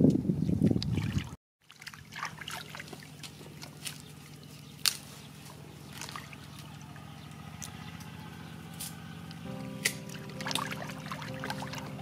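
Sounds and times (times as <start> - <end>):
water splashing and trickling: 0.5 - 12.0.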